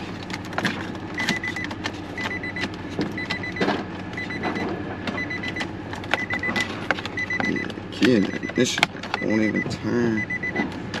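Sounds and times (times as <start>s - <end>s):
steady low hum: 0.0s - 11.0s
car warning chime beeping: 1.2s - 11.0s.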